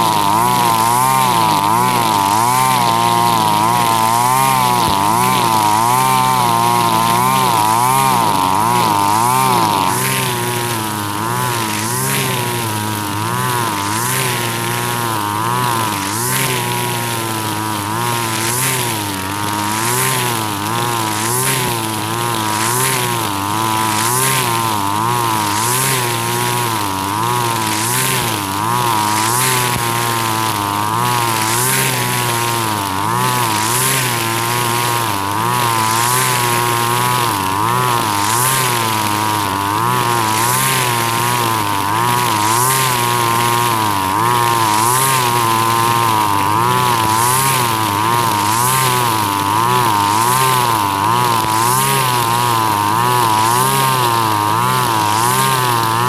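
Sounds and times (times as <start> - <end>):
brush cutter engine running: 0.0 - 56.0
cut grass swishing: 0.0 - 56.0.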